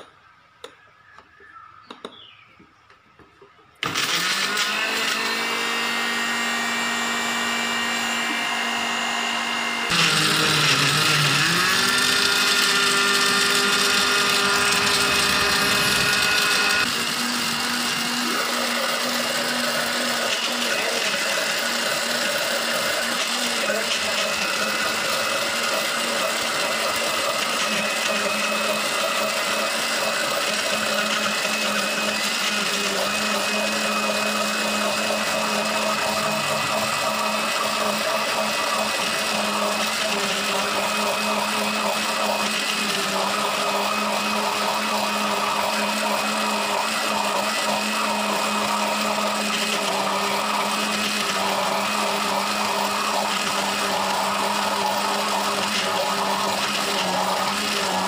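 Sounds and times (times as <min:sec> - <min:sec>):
electric blender running: 0:03.8 - 0:58.0.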